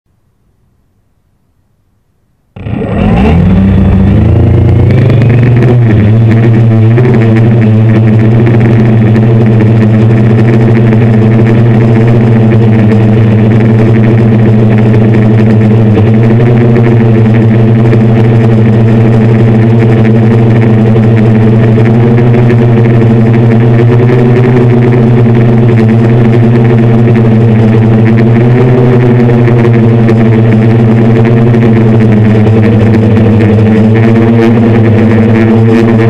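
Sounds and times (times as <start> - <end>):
drone propellers humming: 2.6 - 36.0.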